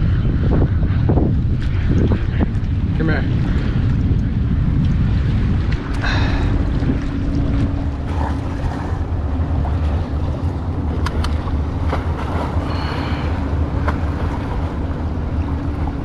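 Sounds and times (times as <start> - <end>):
water lapping against kayak hull: 0.0 - 16.0
wind buffeting microphone: 0.0 - 16.0.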